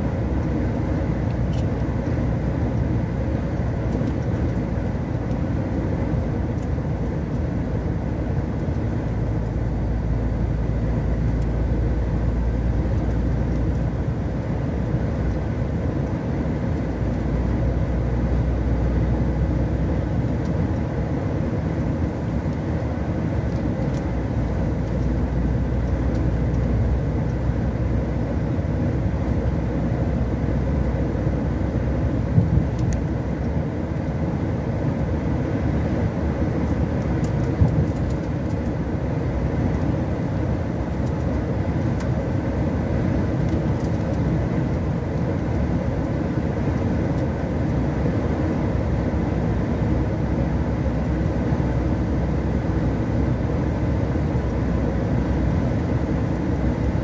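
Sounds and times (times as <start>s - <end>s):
vehicle engine and tyre noise: 0.0s - 57.0s.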